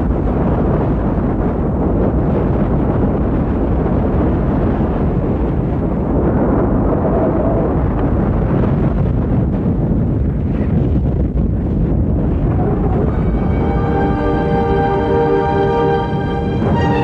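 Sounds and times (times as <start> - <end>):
wind and storm rumble: 0.0 - 17.0.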